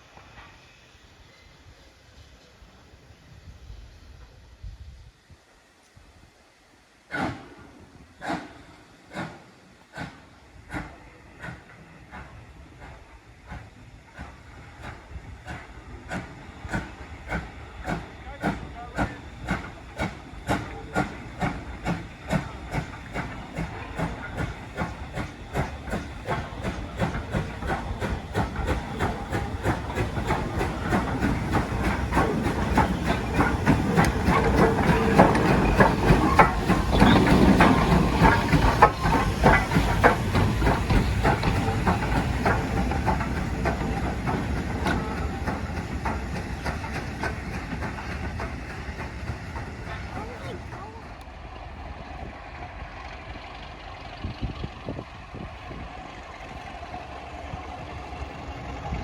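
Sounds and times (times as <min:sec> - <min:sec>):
steam hiss: 0:00.0 - 0:51.2
steam locomotive chuffing: 0:00.0 - 0:59.0.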